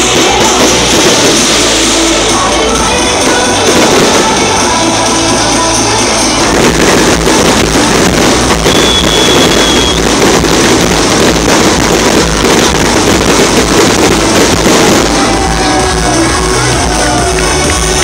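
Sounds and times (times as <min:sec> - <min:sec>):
fireworks crackling and rumbling: 0:00.0 - 0:18.0.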